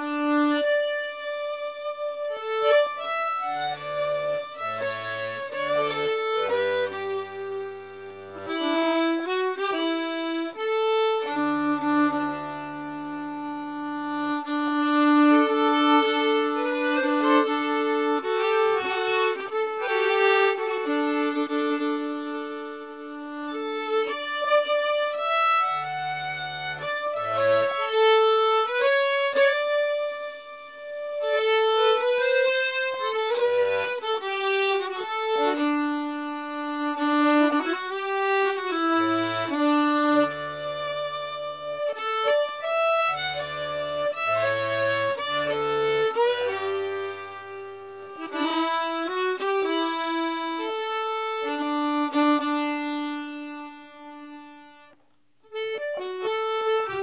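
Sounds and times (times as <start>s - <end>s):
accordion bass chords: 0.0s - 57.0s
fiddle melody: 0.0s - 57.0s.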